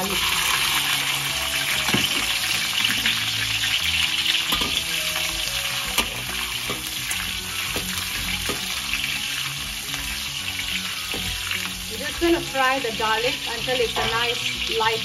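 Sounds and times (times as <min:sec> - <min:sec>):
metal spatula scraping wok: 0:00.0 - 0:12.5
garlic sizzling in hot oil: 0:00.0 - 0:15.0.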